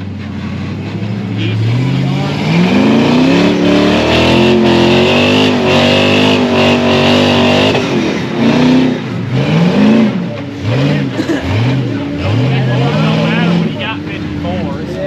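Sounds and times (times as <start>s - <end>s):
engine throttle blips: 0.0s - 15.0s
off-road vehicle engine revving: 0.0s - 15.0s.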